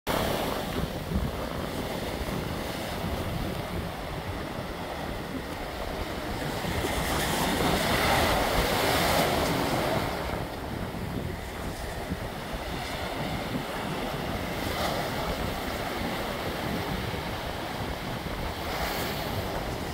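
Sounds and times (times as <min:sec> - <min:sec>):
surf breaking on shore: 0:00.1 - 0:19.9
wind buffeting microphone: 0:00.1 - 0:19.9.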